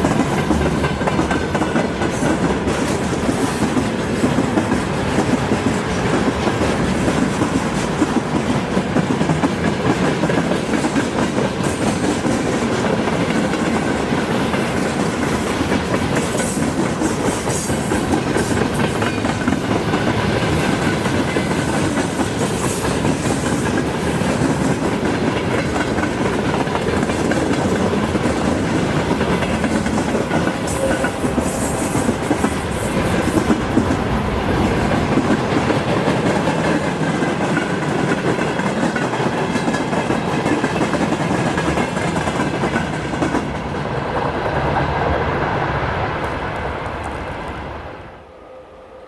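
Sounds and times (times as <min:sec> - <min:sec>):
freight train wagons rolling: 0:00.0 - 0:45.1
clickety-clack over rail joints: 0:00.0 - 0:45.6.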